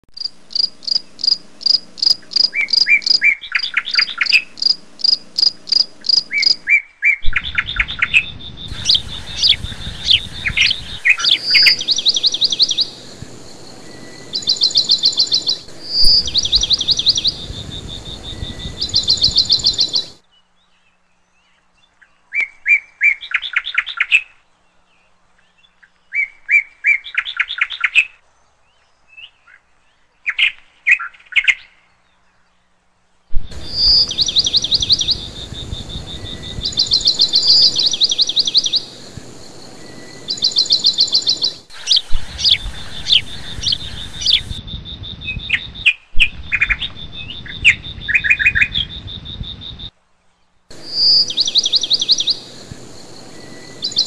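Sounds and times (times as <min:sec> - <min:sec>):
small birds chirping: 0:00.1 - 0:54.0
steady background noise: 0:00.2 - 0:22.4, 0:31.9 - 0:54.0.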